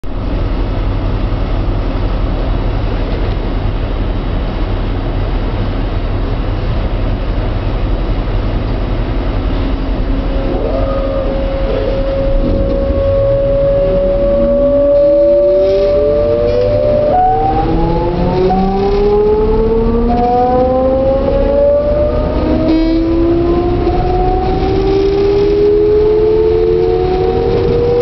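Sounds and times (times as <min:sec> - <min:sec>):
steady whine: 0:00.0 - 0:28.0
traction drive whine rising: 0:00.0 - 0:28.0
train low rumble and hum: 0:00.0 - 0:28.0.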